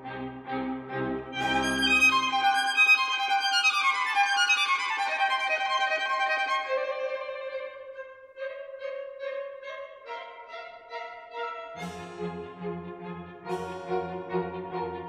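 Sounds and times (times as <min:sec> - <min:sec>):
violin music: 0:00.0 - 0:15.0.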